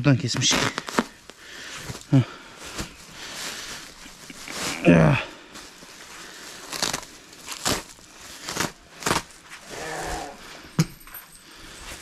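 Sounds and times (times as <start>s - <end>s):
straw and sack rustling: 0.2s - 10.7s.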